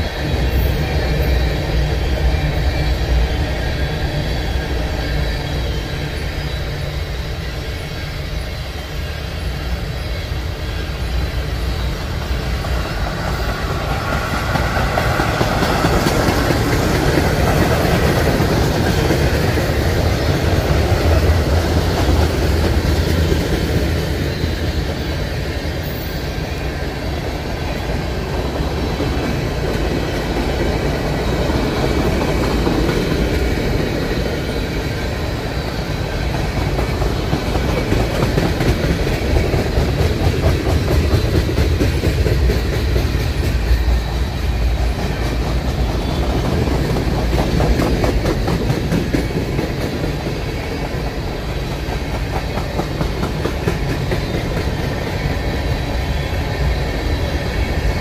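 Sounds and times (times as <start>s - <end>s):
train cars rumbling past: 0.0s - 58.0s.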